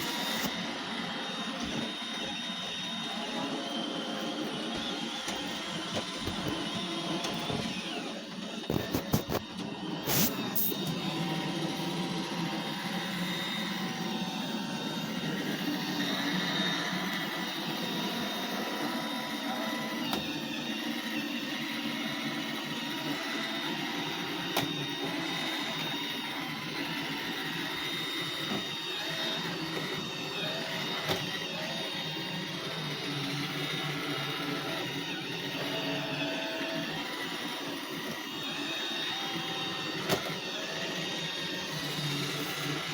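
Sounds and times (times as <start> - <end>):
robot vacuum whirring: 0.0 - 42.9.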